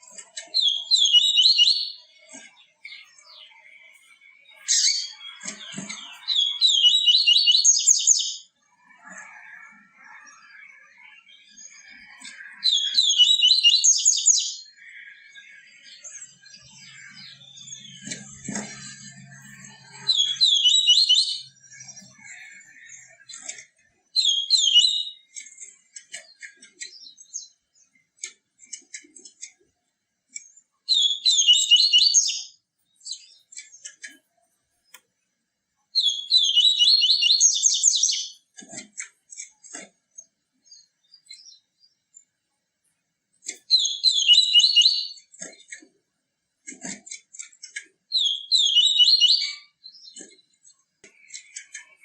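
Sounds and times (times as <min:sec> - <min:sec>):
bird twittering song: 0:00.0 - 0:29.6, 0:30.3 - 0:35.2, 0:35.9 - 0:38.5, 0:39.3 - 0:42.4, 0:43.5 - 0:45.8, 0:47.6 - 0:52.0.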